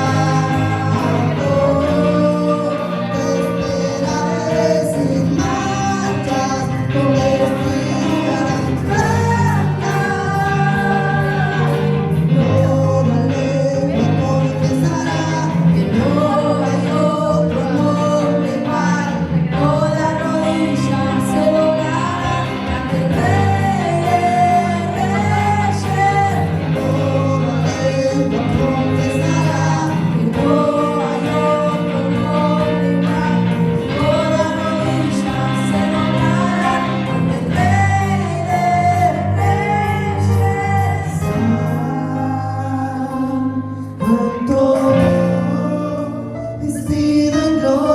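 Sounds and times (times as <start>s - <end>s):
worship music with singing: 0.0s - 47.9s.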